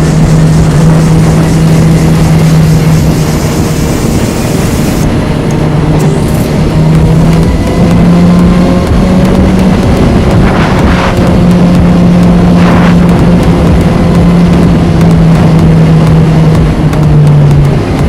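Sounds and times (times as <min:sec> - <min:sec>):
motorcycle engine cruising: 0:00.0 - 0:18.0
wind noise on microphone: 0:00.0 - 0:18.0.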